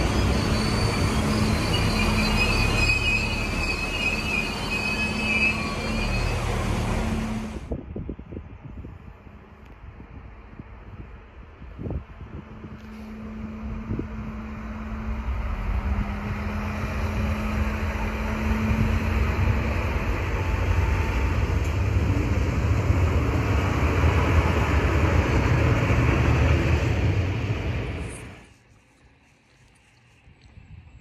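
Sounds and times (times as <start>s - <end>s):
diesel train rumbling on rails: 0.0s - 28.6s.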